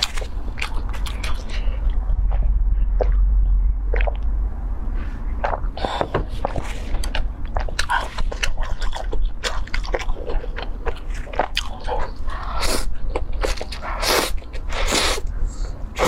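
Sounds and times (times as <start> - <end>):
person biting and chewing food: 0.0 - 4.3, 5.4 - 15.3.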